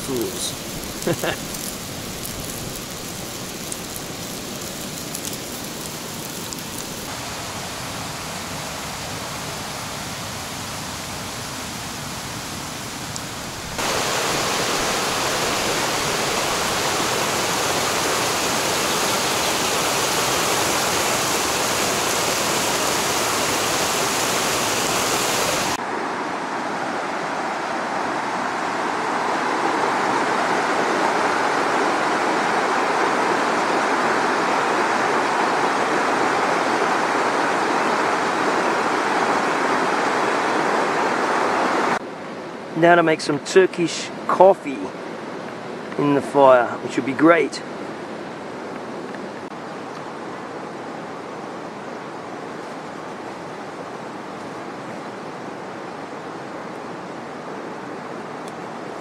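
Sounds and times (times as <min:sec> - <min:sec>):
stream rushing over rocks: 0:00.0 - 0:42.0, 0:49.2 - 0:59.0.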